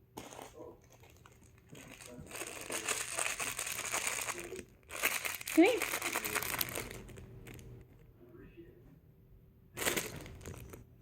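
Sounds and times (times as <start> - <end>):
crinkling rustling: 0.2 - 8.0, 9.8 - 10.8.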